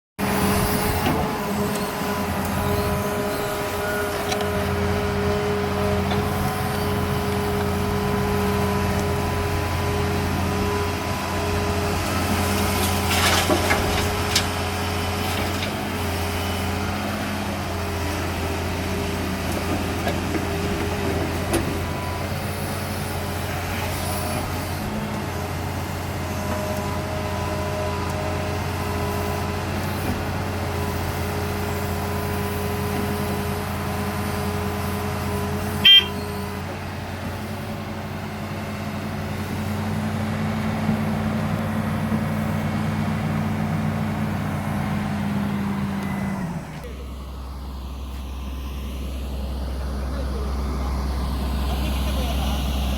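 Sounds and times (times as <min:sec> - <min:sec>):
excavator diesel engine running: 0:00.2 - 0:52.9.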